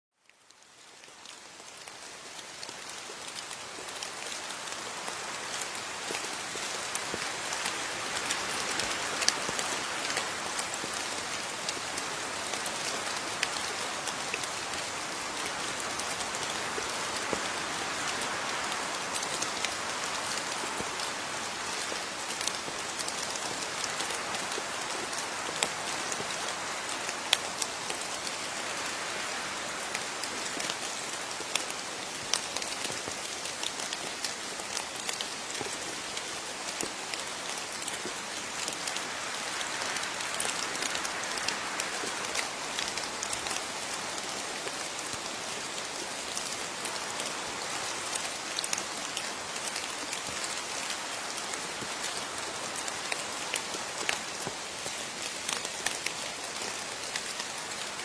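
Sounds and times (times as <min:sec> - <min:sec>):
rain pattering: 0:00.2 - 0:58.0.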